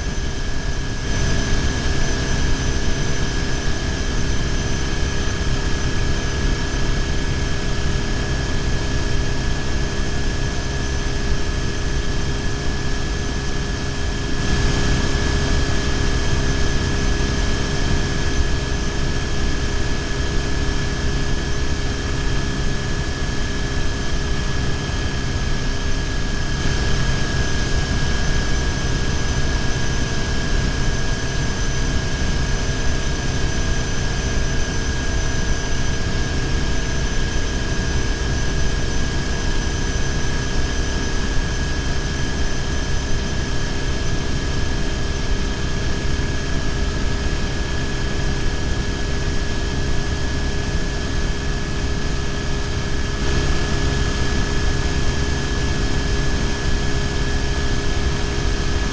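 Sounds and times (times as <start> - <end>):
steady high whine: 0.0 - 58.9.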